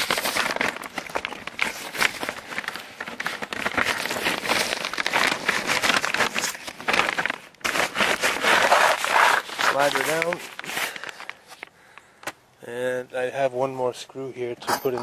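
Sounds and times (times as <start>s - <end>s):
plastic wrap rustling and crinkling: 0.0s - 12.1s.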